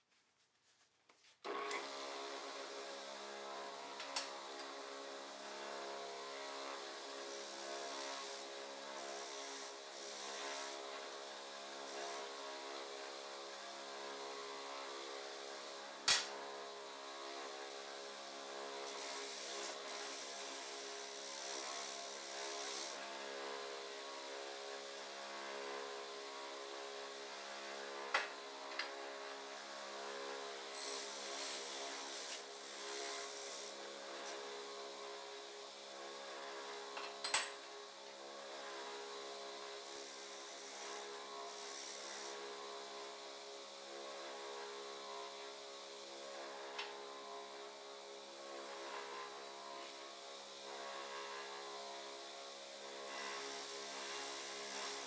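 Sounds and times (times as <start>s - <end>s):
bench grinder humming: 1.5s - 55.0s.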